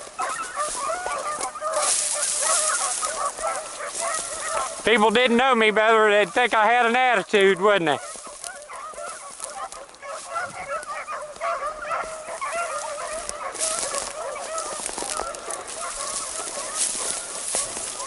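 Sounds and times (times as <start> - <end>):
dogs baying in chorus: 0.0 - 18.0
rustling: 0.0 - 18.0.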